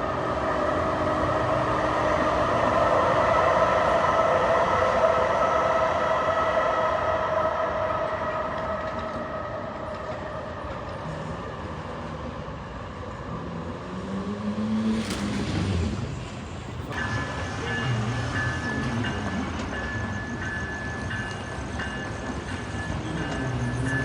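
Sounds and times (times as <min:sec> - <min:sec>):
train rumbling by: 0:00.0 - 0:24.0.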